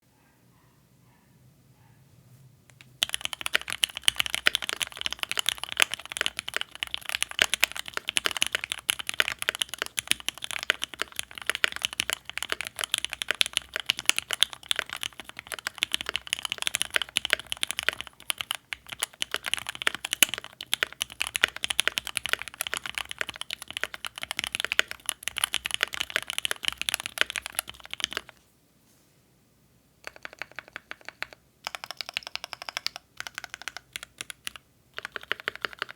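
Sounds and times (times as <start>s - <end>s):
mechanical keyboard typing: 2.7s - 28.4s, 30.0s - 35.9s.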